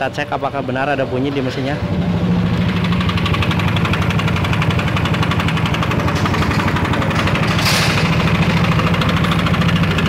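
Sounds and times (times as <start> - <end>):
scooter engine idling with knocking: 1.9 - 10.0.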